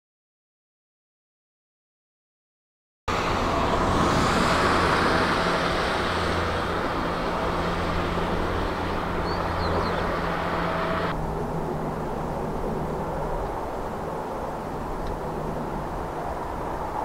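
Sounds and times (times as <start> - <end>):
jet engine rushing: 3.1 - 17.0.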